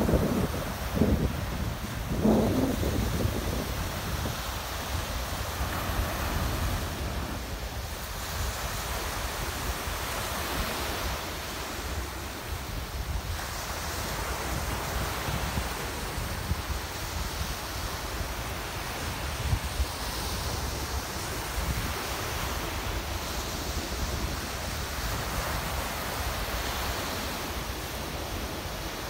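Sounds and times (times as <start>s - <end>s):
waves washing up sandy shore: 0.0s - 29.0s
wind rumbling on microphone: 0.0s - 29.0s.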